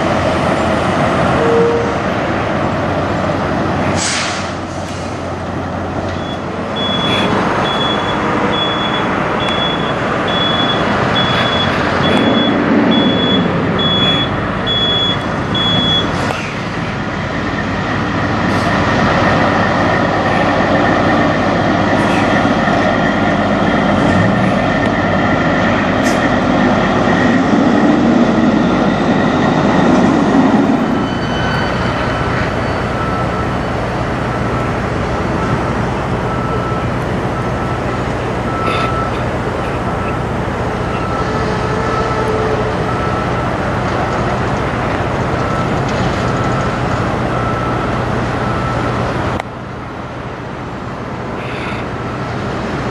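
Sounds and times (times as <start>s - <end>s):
traffic hum: 0.0s - 52.9s
trucks driving by: 0.0s - 52.9s.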